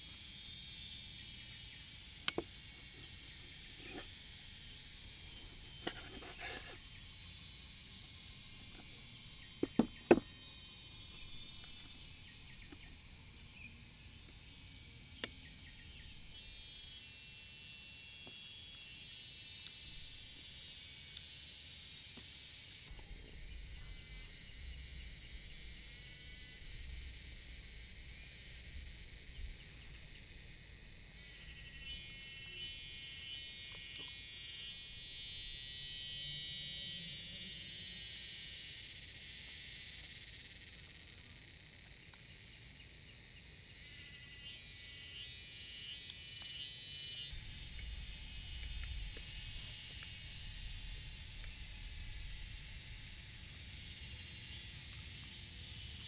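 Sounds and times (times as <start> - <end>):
insects chirring buzz: 0.0 - 56.0.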